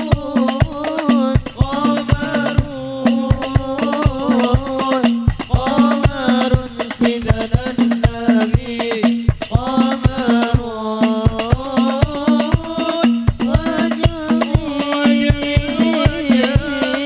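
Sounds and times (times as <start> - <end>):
frame drums beating: 0.0 - 17.0
group singing devotional song: 0.0 - 17.0.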